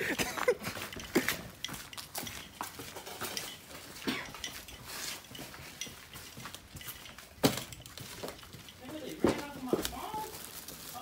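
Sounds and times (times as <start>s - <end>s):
irregular footsteps: 0.0s - 11.0s
light clicks and clinks: 0.0s - 11.0s.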